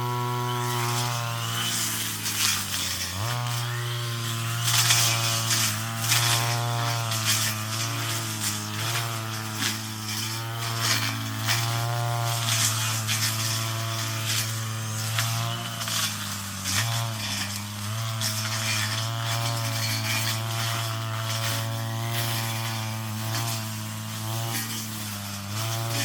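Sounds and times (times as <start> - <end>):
brush cutter engine running: 0.0 - 26.0
cutting head swishing through weeds: 0.2 - 26.0.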